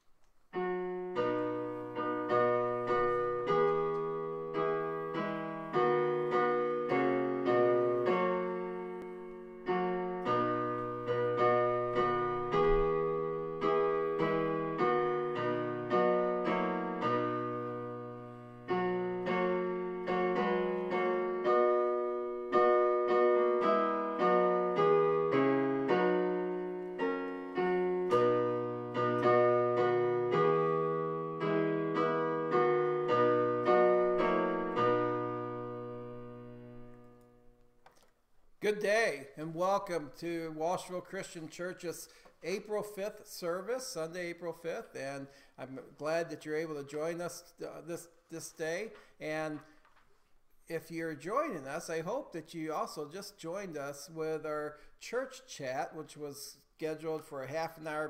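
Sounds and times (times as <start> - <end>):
solo piano: 0.0 - 49.8.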